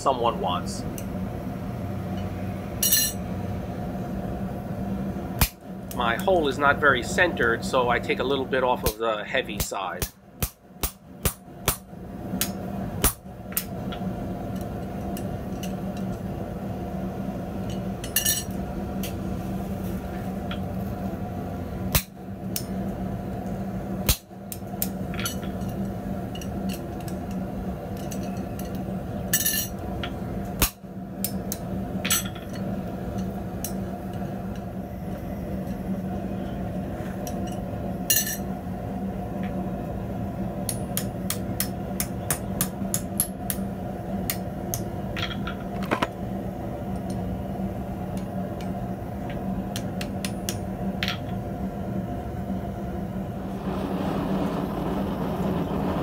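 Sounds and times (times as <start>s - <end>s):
forge hum: 0.0s - 56.0s.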